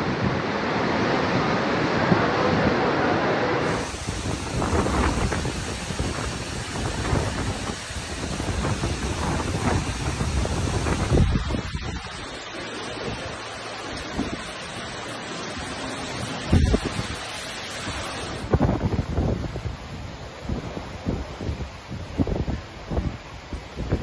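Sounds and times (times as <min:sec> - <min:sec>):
wind buffeting microphone: 0:00.0 - 0:14.8, 0:16.2 - 0:24.0
driving rain: 0:00.0 - 0:24.0
heavy surf breaking: 0:00.0 - 0:24.0
hurricane wind: 0:00.0 - 0:24.0.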